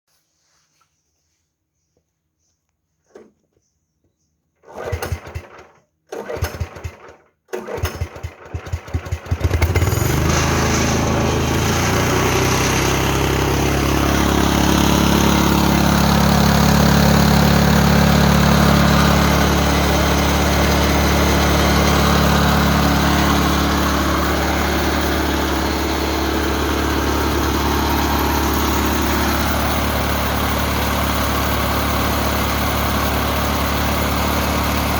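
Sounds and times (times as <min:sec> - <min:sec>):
engine cranking and running: 0:04.6 - 0:34.9.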